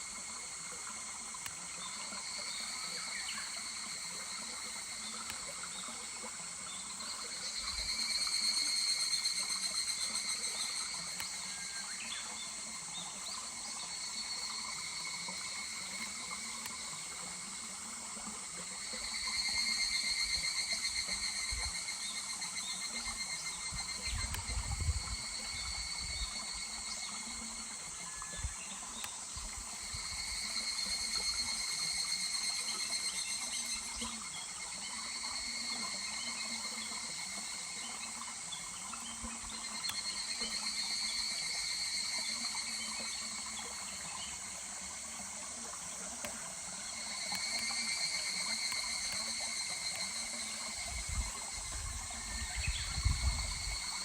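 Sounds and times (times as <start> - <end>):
cicadas trilling: 0.0 - 54.0
small stream rushing: 0.0 - 54.0.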